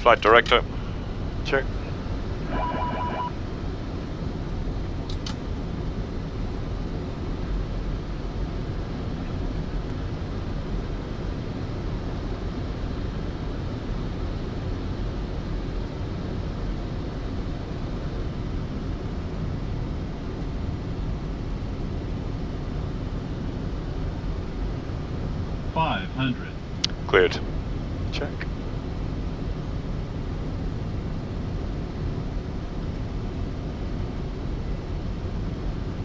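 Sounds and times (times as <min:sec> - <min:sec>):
aircraft engine noise: 0:00.0 - 0:19.2, 0:19.8 - 0:36.0.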